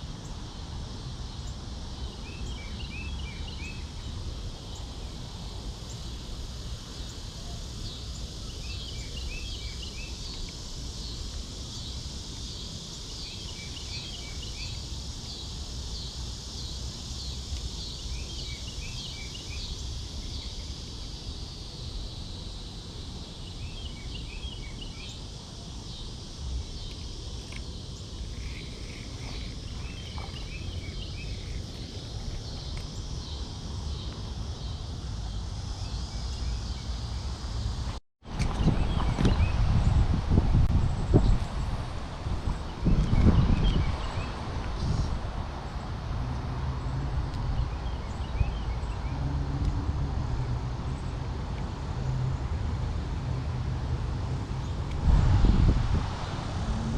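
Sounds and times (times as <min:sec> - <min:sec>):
songbird singing: 0:00.0 - 0:53.5
steady high hiss: 0:00.0 - 0:56.9.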